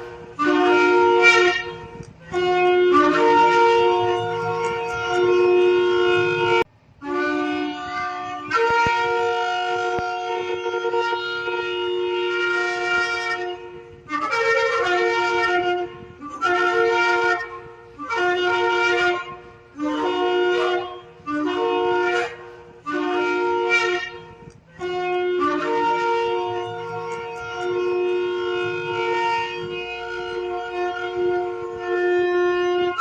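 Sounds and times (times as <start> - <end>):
shofar blasts: 0.0 - 33.0.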